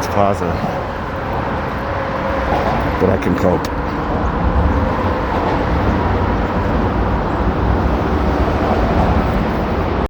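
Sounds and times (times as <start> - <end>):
city road traffic rumble: 0.0 - 10.0.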